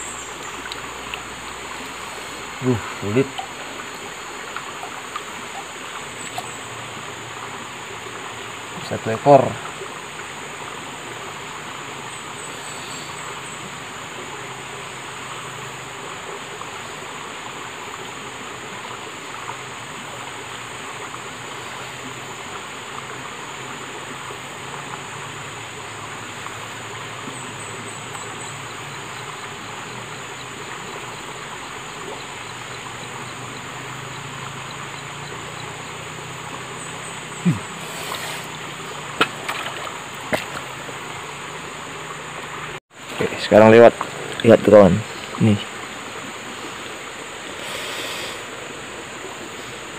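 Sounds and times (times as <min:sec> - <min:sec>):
insects droning: 0:00.0 - 0:49.9
stream rushing: 0:00.0 - 0:49.9.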